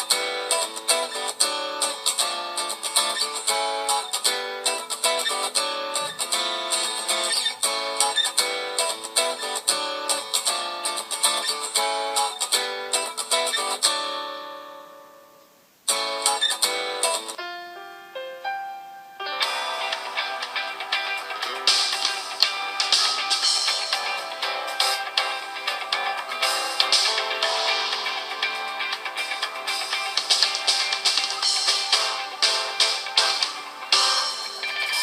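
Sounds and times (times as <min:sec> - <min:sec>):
guitar ringtone tune: 0:00.0 - 0:35.0.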